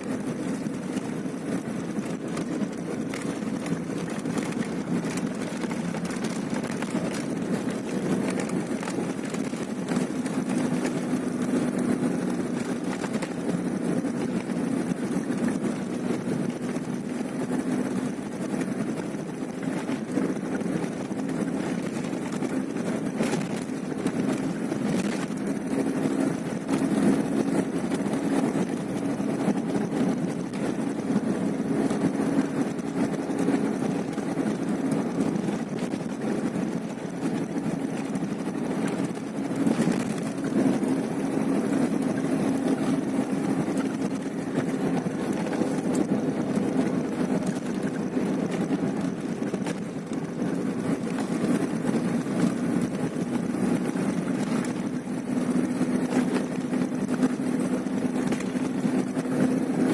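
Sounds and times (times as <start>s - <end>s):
vehicle engine drone: 0.0s - 59.9s.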